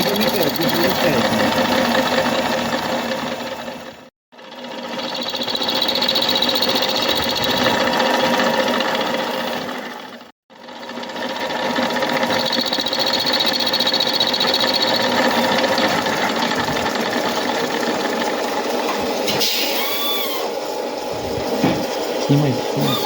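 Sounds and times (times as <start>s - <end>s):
milling machine whirring: 0.0s - 23.0s.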